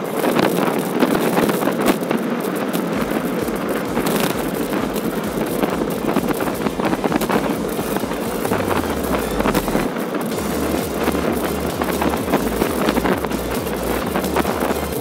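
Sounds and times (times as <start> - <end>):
bicycle tyres rolling on asphalt: 0.0 - 15.0
small clicks and rattles: 0.0 - 15.0
wind buffeting microphone: 0.0 - 15.0.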